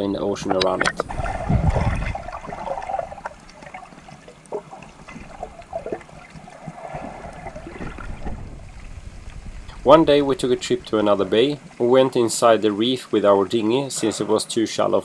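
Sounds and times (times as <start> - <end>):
faint underwater clicks and crackles: 0.0 - 15.0
muffled underwater water rush: 0.0 - 15.0.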